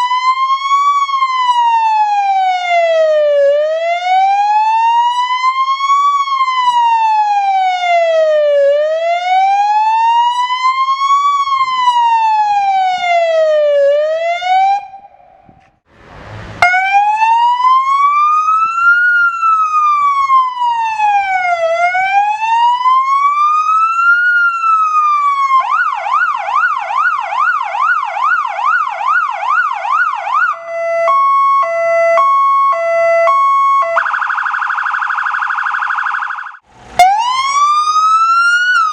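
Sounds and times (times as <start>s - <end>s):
fire engine siren wailing: 0.0s - 38.9s.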